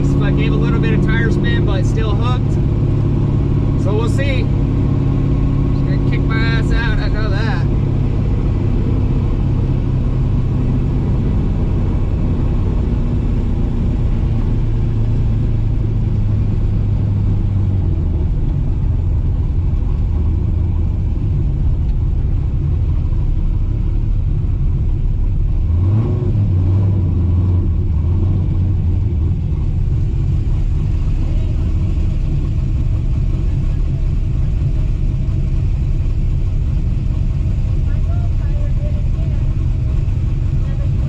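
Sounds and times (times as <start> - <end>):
car engine running at low revs: 0.0 - 41.0.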